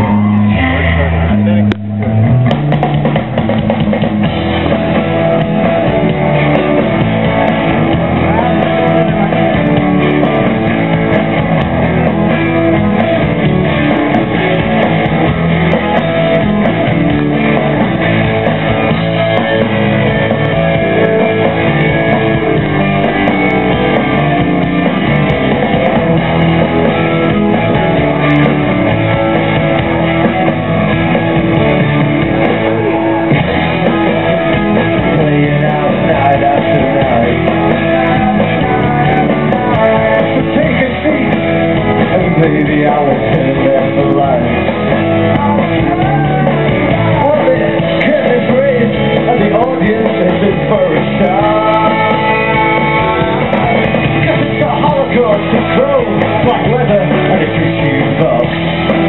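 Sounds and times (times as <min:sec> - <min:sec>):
rock guitar music: 0:00.0 - 0:59.0.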